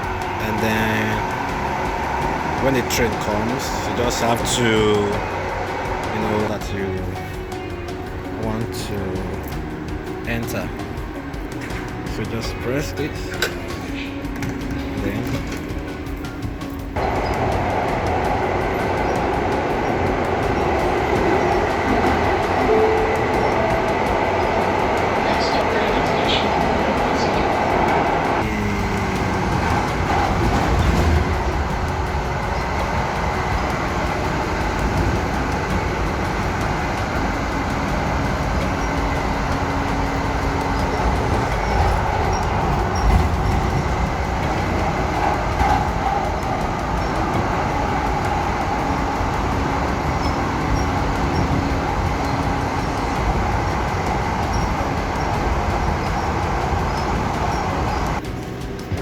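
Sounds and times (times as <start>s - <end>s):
faint steady whines: 0.0s - 59.0s
light-rail train rumbling on track: 0.0s - 59.0s.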